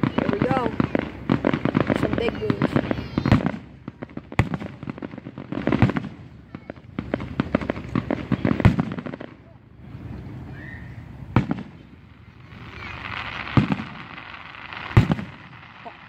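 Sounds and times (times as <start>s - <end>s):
loud firework bangs: 0.0s - 16.0s.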